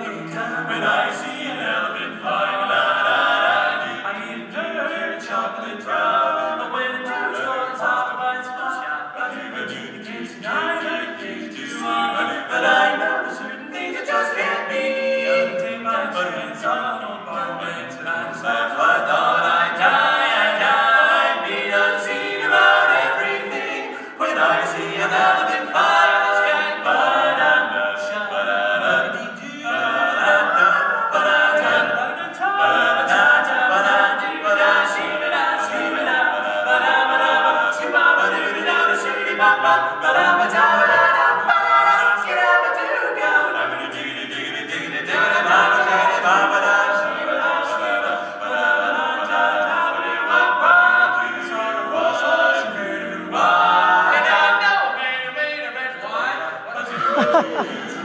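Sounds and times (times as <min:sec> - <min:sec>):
male quartet singing a cappella: 0:00.0 - 0:58.0.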